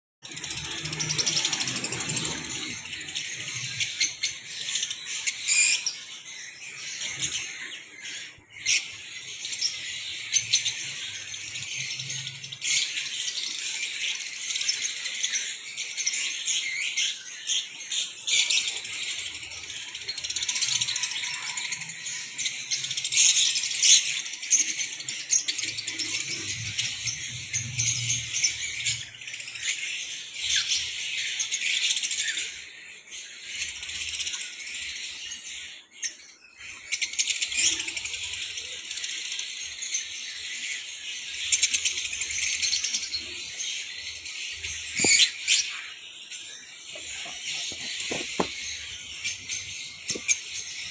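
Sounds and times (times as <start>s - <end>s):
birds chirping and squeaking: 0.2s - 50.9s.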